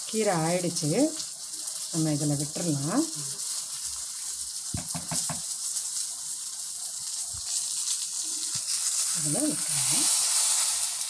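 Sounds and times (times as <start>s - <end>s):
stew simmering with fizzing hiss: 0.0s - 11.0s.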